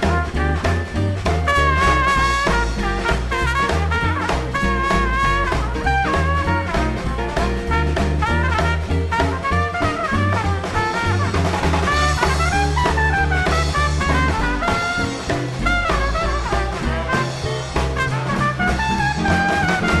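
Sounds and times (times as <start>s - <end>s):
drums keeping swing beat: 0.0s - 20.0s
horns holding notes: 0.0s - 20.0s
swing band playing: 0.0s - 20.0s
upright bass: 0.0s - 20.0s.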